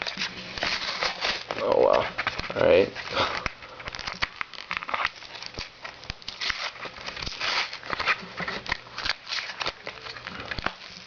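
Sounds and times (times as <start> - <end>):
plastic blister pack tearing: 0.0 - 11.0.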